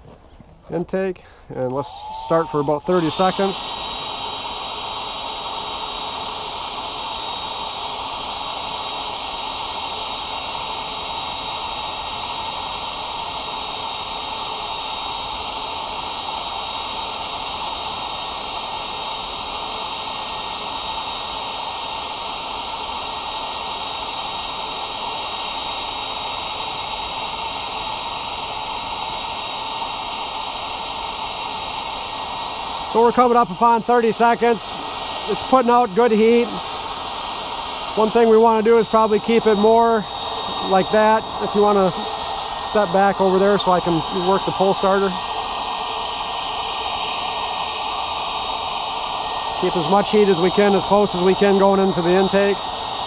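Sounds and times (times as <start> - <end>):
hair dryer running: 1.5 - 53.0.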